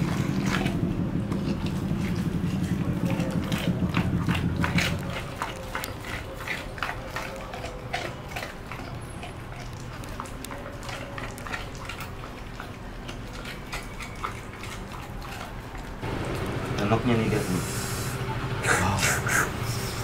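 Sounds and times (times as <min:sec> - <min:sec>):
dog chewing on bone: 0:00.0 - 0:16.9.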